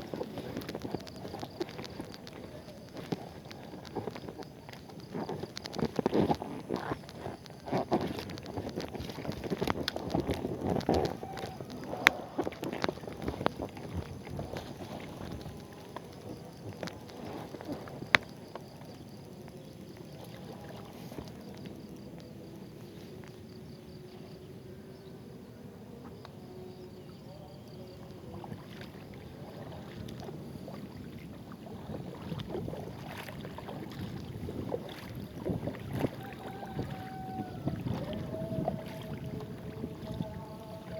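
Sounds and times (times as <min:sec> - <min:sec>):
water splashing around a kayak: 0:00.0 - 0:40.9.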